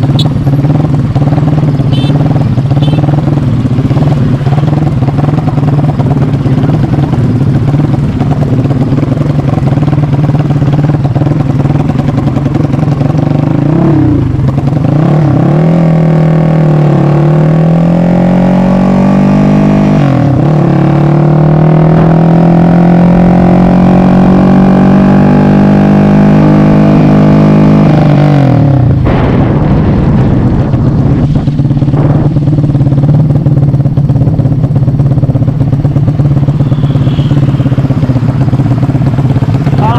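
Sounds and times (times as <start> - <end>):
motorcycle accelerating through gears: 0.0 - 29.1, 30.0 - 39.9.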